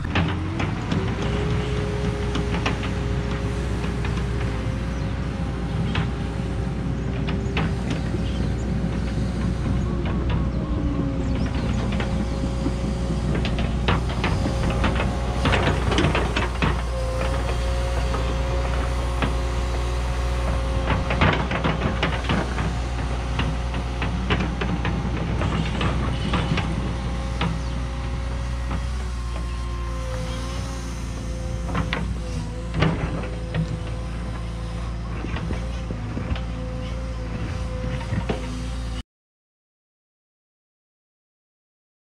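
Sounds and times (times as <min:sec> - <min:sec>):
scraping knocks: 0:00.0 - 0:36.6
excavator diesel engine running: 0:00.0 - 0:39.0
hydraulic whine: 0:00.0 - 0:39.0.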